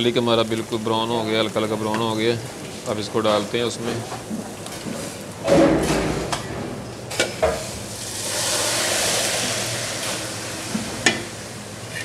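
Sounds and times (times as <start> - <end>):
hot oil sizzling in sauce: 0.0 - 12.0.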